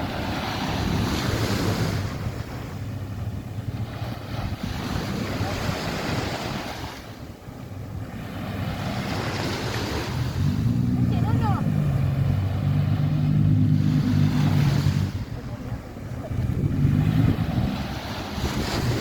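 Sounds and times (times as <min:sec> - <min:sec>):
sea surf washing on beach: 0:00.0 - 0:19.0
wind rumbling on microphone: 0:00.0 - 0:19.0.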